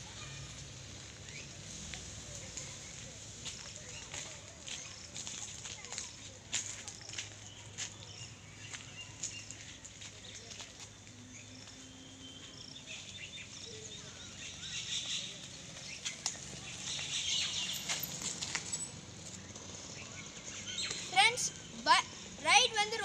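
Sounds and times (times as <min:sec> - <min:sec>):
birds chirping: 0:00.2 - 0:23.0.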